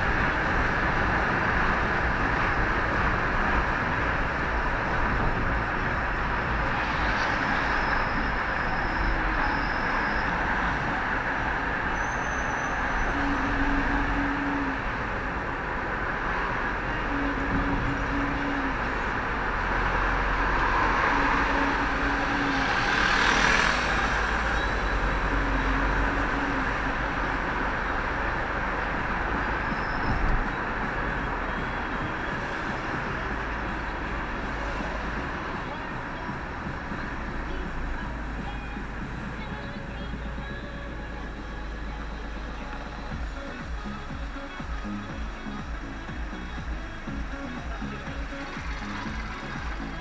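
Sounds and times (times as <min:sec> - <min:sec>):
vehicle running noise from inside: 0:00.0 - 0:50.0.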